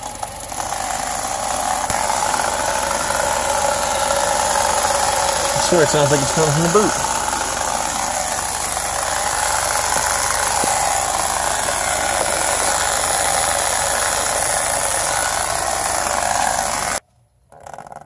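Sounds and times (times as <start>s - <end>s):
car engine running in gear: 0.0s - 17.0s.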